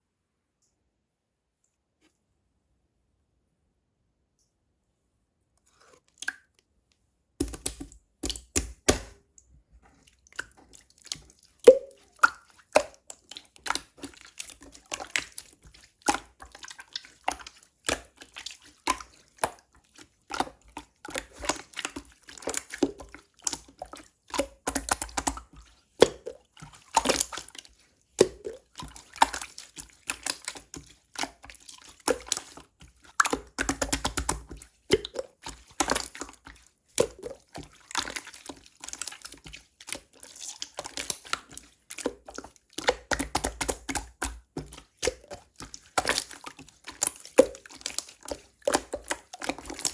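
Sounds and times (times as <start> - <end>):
slime squishing by hand: 7.4 - 49.9.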